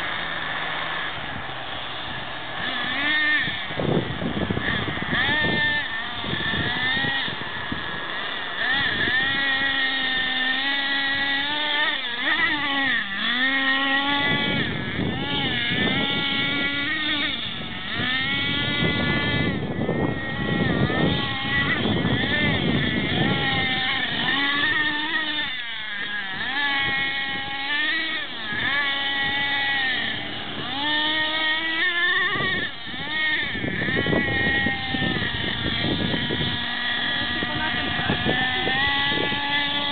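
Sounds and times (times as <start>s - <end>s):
rc truck engine revving: 0.0s - 39.9s.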